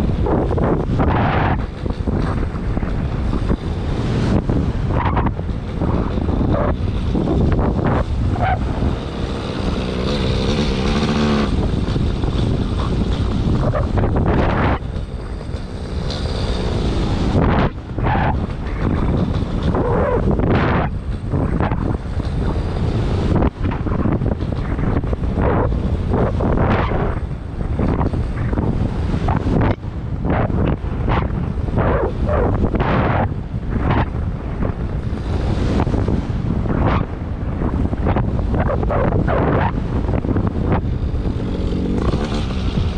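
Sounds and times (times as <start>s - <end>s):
paramotor engine droning: 0.0s - 42.9s
wind buffeting microphone: 0.0s - 42.9s.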